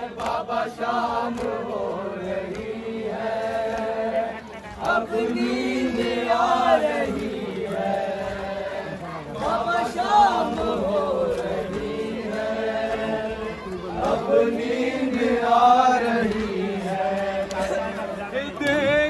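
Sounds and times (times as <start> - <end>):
group chanting a lament: 0.0 - 19.0.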